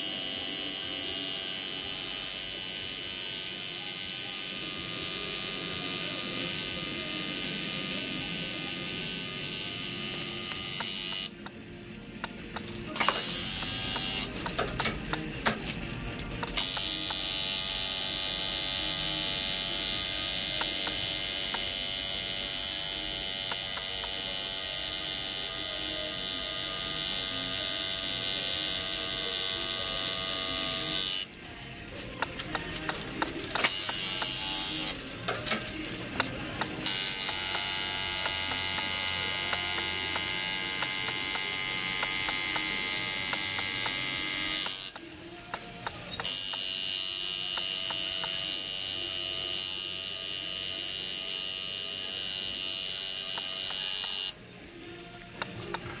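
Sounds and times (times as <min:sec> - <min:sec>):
tattoo machine buzzing: 0:00.0 - 0:11.5, 0:12.9 - 0:15.3, 0:16.4 - 0:31.3, 0:32.2 - 0:35.1, 0:36.6 - 0:54.4.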